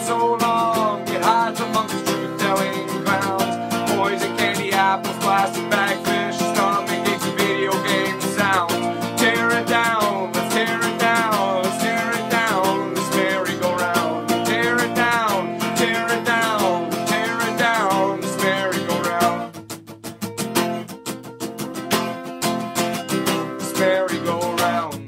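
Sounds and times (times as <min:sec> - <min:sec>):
man singing: 0:00.0 - 0:19.6, 0:23.2 - 0:25.0
strummed acoustic guitar: 0:00.0 - 0:25.0.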